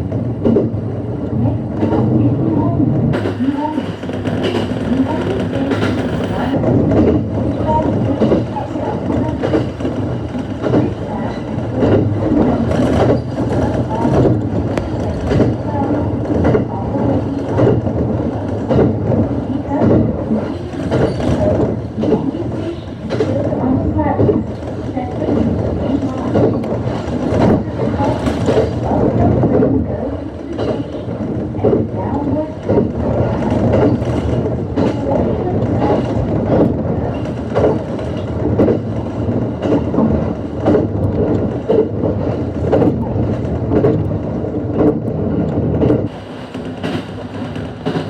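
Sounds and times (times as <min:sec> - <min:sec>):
electric train rumbling: 0:00.0 - 0:48.0.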